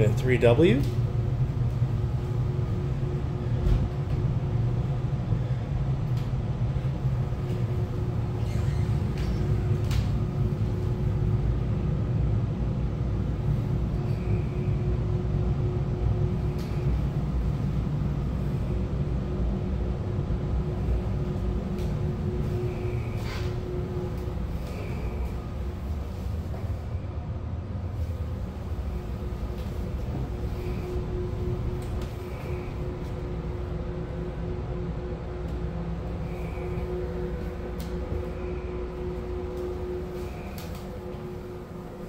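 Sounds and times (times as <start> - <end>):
faint hum: 0.0 - 42.0
low rumble: 0.0 - 42.0.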